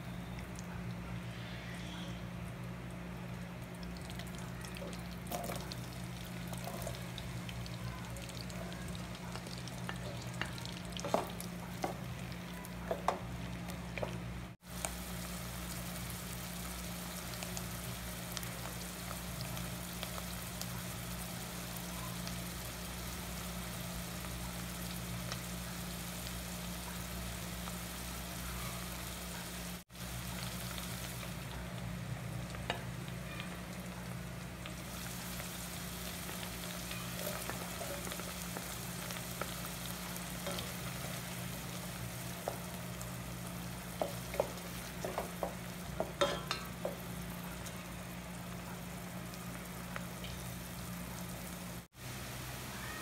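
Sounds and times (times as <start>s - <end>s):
butter sizzling in a pot: 3.3s - 53.0s.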